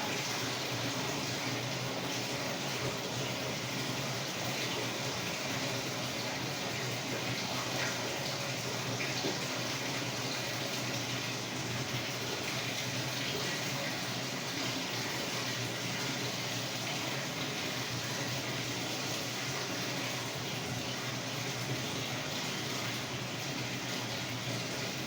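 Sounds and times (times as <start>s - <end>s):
washer low hum: 0.0s - 25.0s
water rushing in washer tub: 0.0s - 25.0s.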